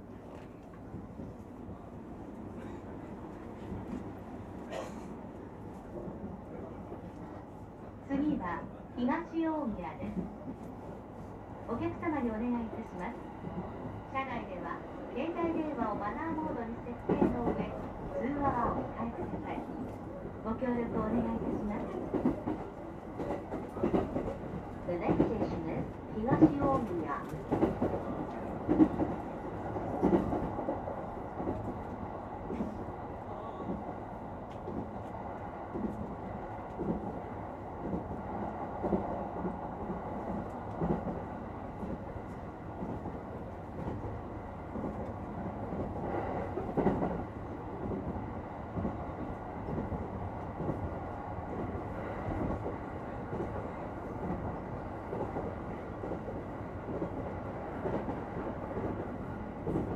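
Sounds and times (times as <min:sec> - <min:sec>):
train rumble and hum: 0:00.0 - 0:59.9.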